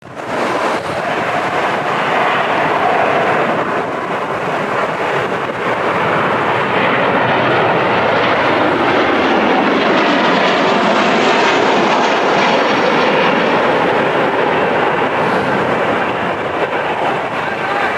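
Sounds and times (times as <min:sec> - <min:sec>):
jet engines roaring: 0:00.0 - 0:17.9.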